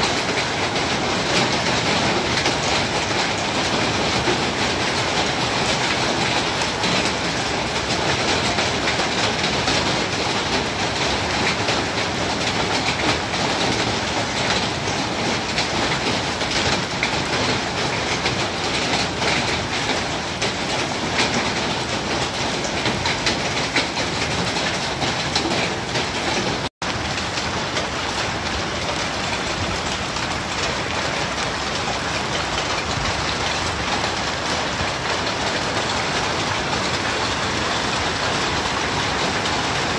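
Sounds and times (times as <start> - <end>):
hailstones striking the ground: 0.0 - 39.9.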